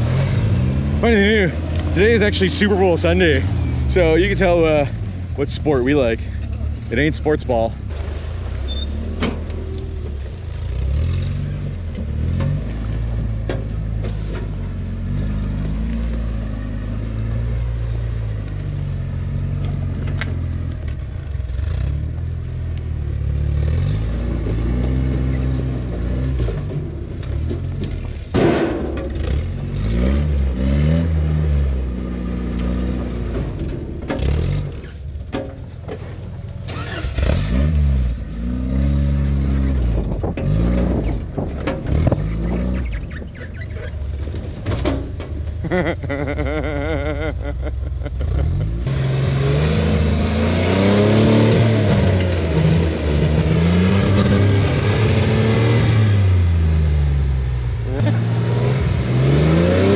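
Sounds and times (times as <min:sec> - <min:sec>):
engine revving: 0:00.0 - 0:35.0, 0:36.7 - 0:44.0, 0:45.6 - 0:59.9.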